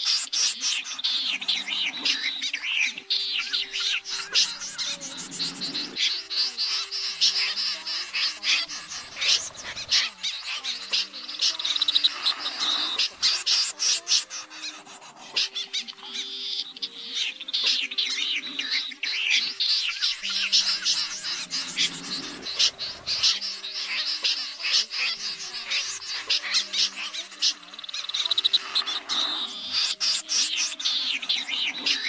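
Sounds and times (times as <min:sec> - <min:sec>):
snipe calling: 0:00.0 - 0:32.0.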